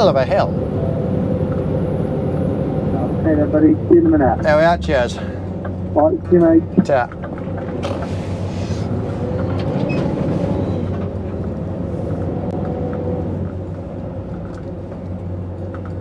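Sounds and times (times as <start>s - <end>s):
diesel truck engine droning: 0.0s - 16.0s.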